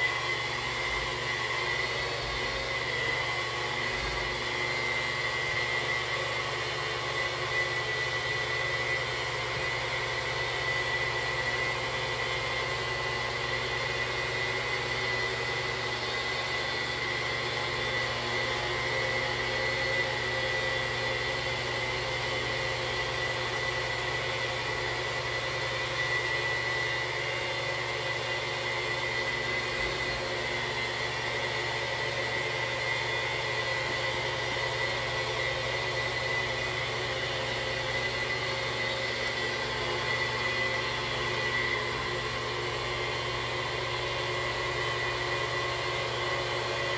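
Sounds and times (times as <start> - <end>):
electric polisher motor whine: 0.0 - 46.9.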